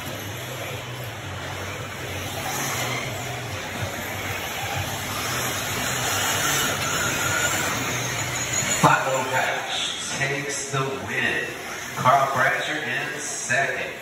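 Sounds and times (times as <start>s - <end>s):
electric rc cars racing: 0.0s - 14.0s.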